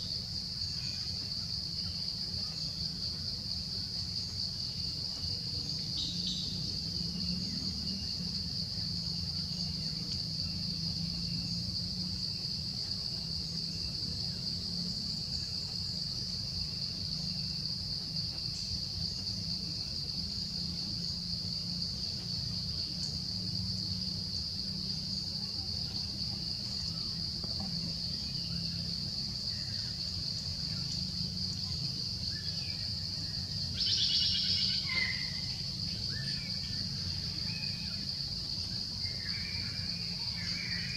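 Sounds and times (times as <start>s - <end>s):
shrill insect chorus: 0.0s - 40.9s.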